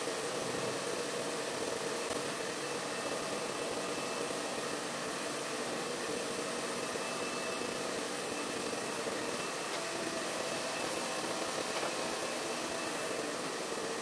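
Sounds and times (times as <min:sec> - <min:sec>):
hair dryer blowing air: 0:00.0 - 0:14.0.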